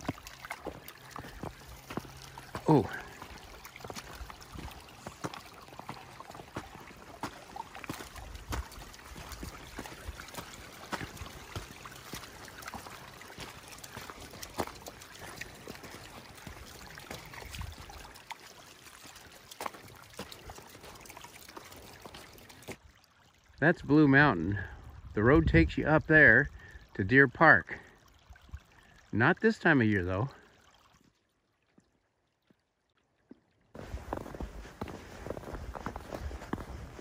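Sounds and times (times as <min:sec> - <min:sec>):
water trickling in a ditch: 0:00.0 - 0:37.0.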